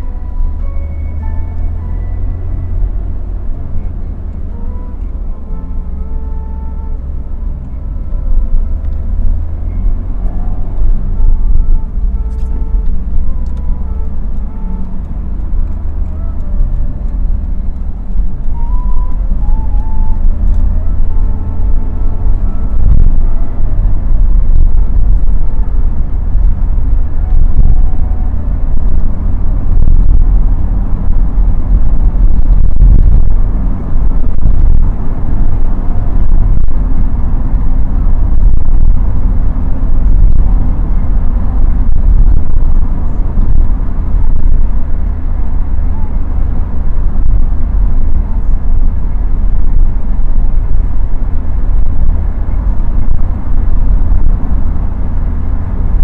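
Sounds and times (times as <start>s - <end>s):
car engine rumble in cabin: 0.0s - 56.0s
tyres on road: 0.0s - 56.0s.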